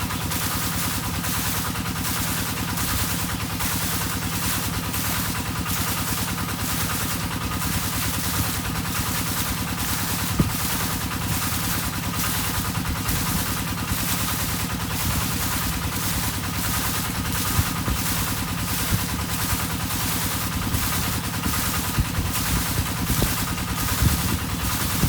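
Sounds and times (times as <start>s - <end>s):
water pump engine chugging: 0.0s - 25.0s.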